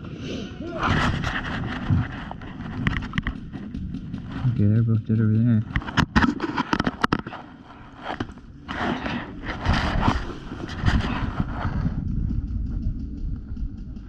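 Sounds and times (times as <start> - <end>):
gear rustling against microphone: 0.6 - 14.0.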